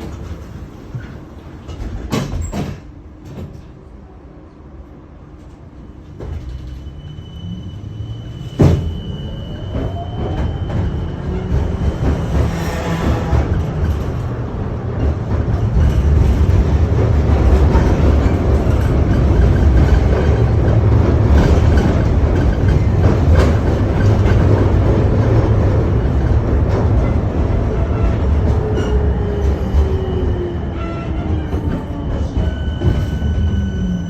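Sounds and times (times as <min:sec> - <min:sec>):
tram wheels rumbling on rails: 0:00.0 - 0:34.0.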